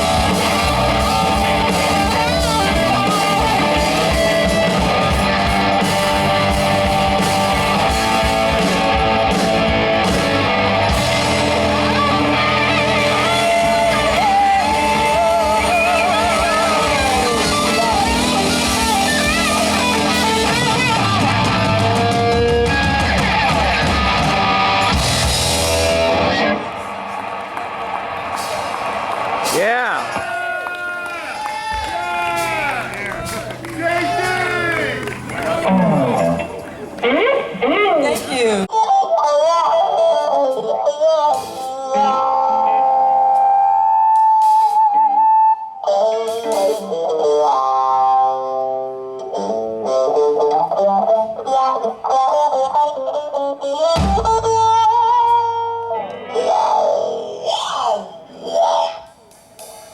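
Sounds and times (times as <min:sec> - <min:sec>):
electric guitar bending lead: 0:00.0 - 0:30.2, 0:31.7 - 0:59.9
rock band playing: 0:00.0 - 0:30.4, 0:31.0 - 0:58.4.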